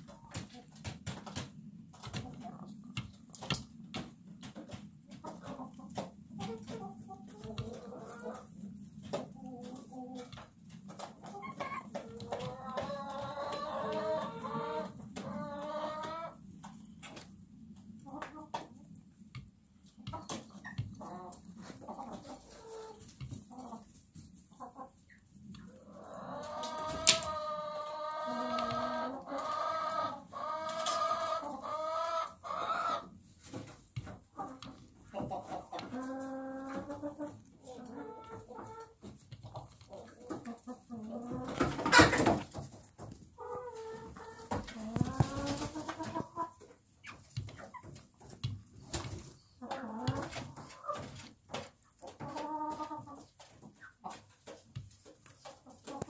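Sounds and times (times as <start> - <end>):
hens clucking: 0.0 - 56.0.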